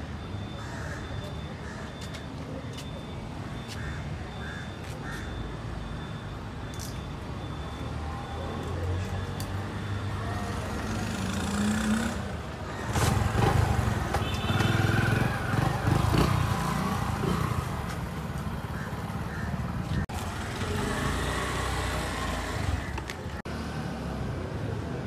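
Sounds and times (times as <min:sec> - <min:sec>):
steady low traffic hum: 0:00.0 - 0:25.0.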